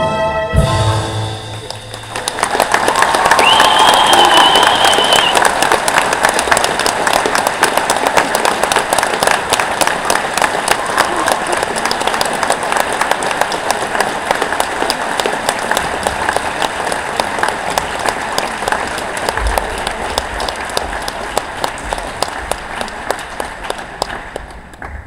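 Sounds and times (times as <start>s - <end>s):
large audience applauding: 1.2s - 25.0s.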